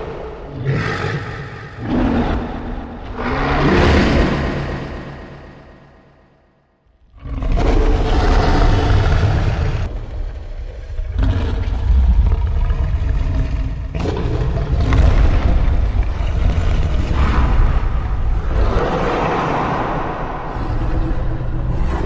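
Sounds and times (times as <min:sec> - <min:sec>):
deep rumbling effect: 0:00.0 - 0:22.0.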